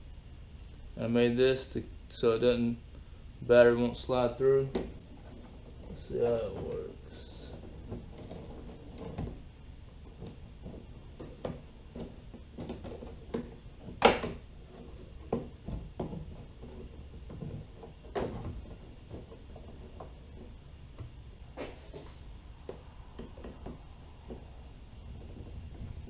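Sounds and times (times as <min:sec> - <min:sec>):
knocks and scrapes on plastic hull: 0:04.2 - 0:26.0.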